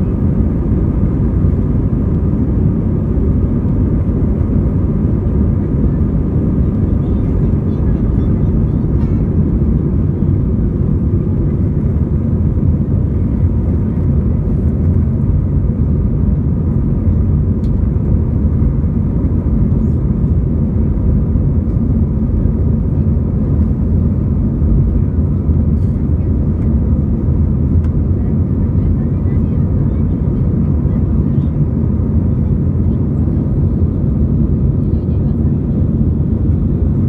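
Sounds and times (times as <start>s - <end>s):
faint engine whine: 0.0s - 37.0s
jet engine cabin rumble: 0.0s - 37.0s.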